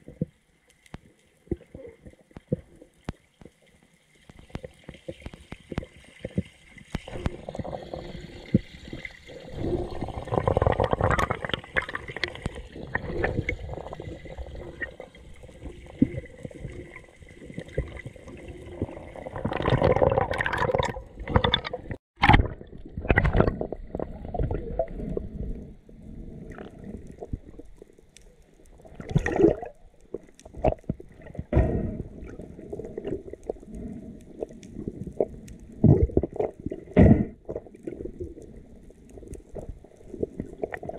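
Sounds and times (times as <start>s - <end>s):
underwater sloshing and gurgling: 0.0s - 40.9s.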